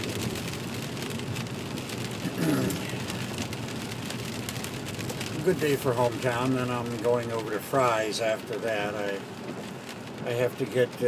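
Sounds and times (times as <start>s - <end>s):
car driving noise: 0.0s - 11.0s
rain drops ticking on car: 0.0s - 11.0s.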